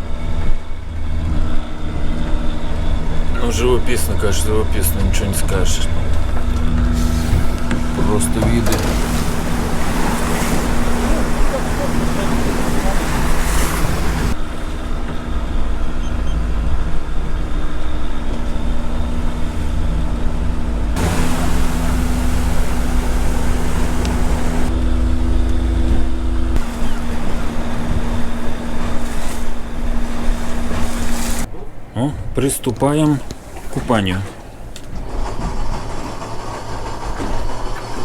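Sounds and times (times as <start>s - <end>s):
boat engine humming: 0.0s - 38.0s
water noise: 0.0s - 38.0s
wind: 0.0s - 38.0s.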